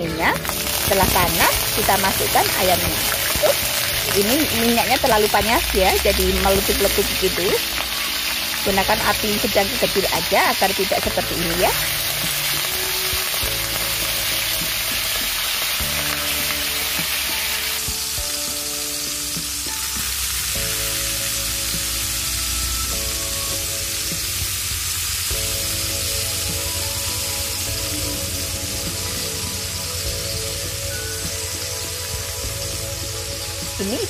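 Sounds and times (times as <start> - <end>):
chicken sizzling in frying pan: 0.0 - 34.0.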